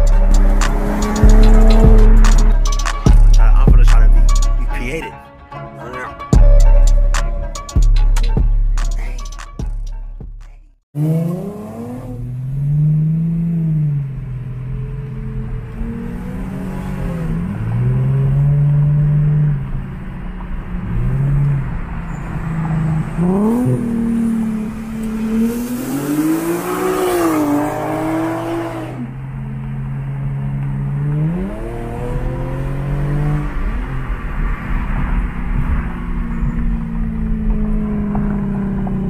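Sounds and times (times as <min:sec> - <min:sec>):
car exhaust accelerating: 0:00.0 - 0:04.6, 0:11.0 - 0:39.0.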